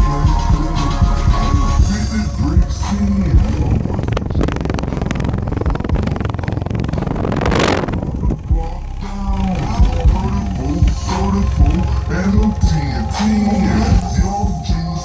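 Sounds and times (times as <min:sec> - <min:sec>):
subwoofer deep bass: 0:00.0 - 0:15.0.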